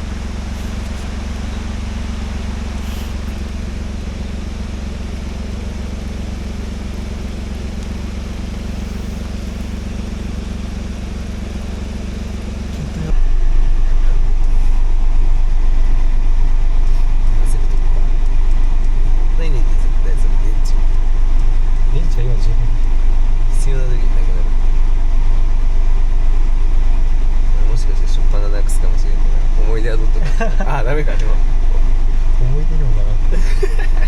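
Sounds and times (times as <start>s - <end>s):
car engine rumble: 0.0s - 34.0s
road noise: 0.0s - 34.0s.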